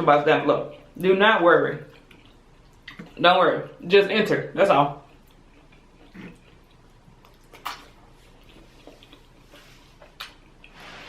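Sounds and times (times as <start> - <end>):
mouth and eating sounds: 0.6 - 3.9, 4.7 - 11.0.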